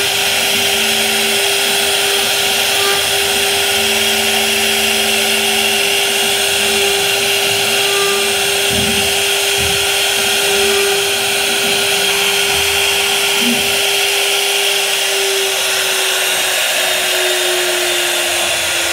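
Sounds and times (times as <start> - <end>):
router spindle whine: 0.0 - 18.9.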